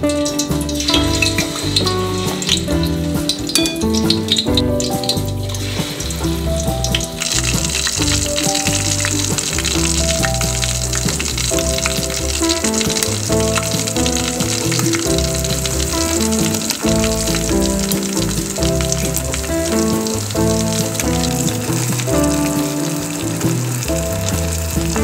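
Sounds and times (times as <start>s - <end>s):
background music: 0.0s - 25.0s
food sizzling in hot oil: 0.0s - 25.0s.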